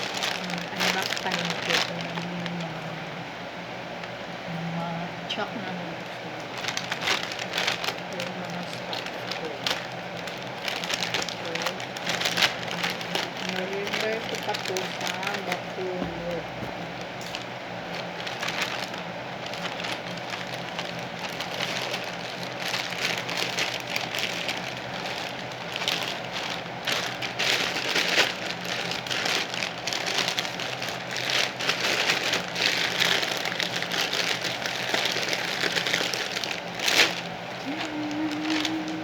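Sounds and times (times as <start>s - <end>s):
plastic packaging crinkling and tearing: 0.0s - 3.0s, 6.4s - 39.0s.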